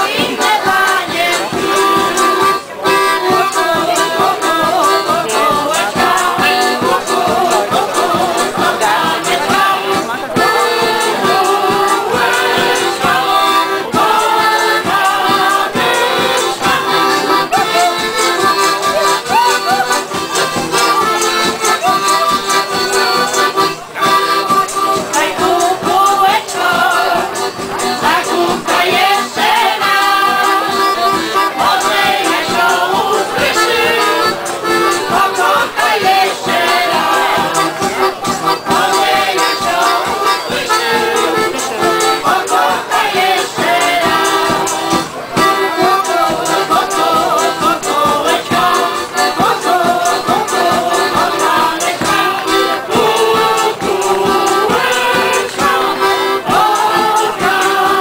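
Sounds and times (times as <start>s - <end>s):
accordion: 0.0s - 58.0s
jingling percussion: 0.0s - 58.0s
women's choir singing folk song: 0.0s - 58.0s.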